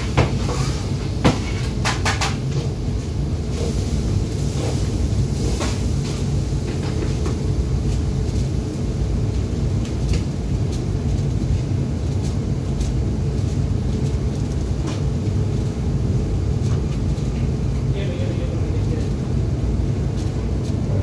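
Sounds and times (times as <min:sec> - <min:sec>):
extraction fan rumbling: 0:00.0 - 0:21.0.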